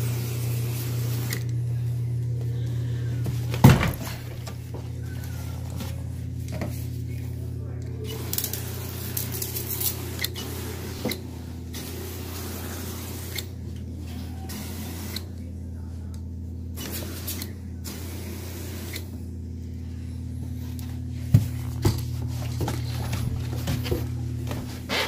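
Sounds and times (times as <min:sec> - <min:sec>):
cleaning machine motor humming: 0:00.0 - 0:25.0.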